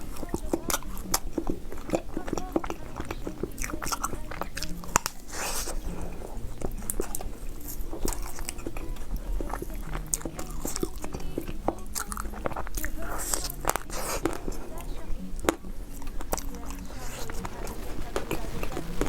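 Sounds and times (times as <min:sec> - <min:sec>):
breathy hiss: 0:00.0 - 0:19.0
person chewing cake: 0:00.0 - 0:19.0
wet mouth clicks: 0:00.0 - 0:19.0.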